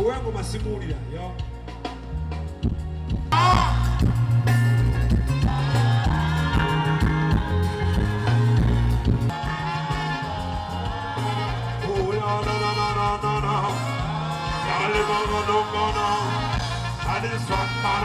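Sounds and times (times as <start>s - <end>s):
band music: 0.0s - 18.0s
bass line: 0.0s - 18.0s.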